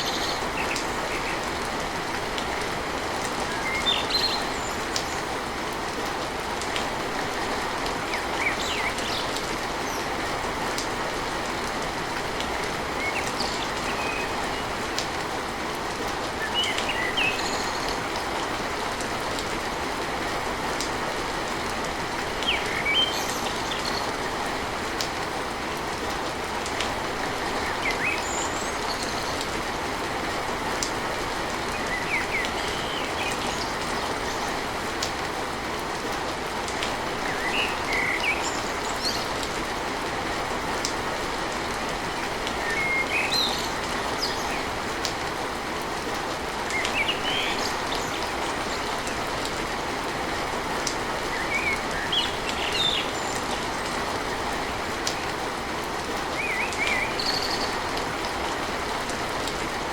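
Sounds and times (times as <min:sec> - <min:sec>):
rain on a tin roof: 0:00.0 - 0:59.9.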